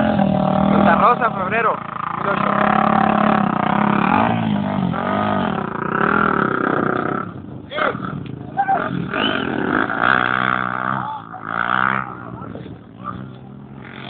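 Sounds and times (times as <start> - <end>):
off-road vehicle engines revving: 0.0 - 14.0.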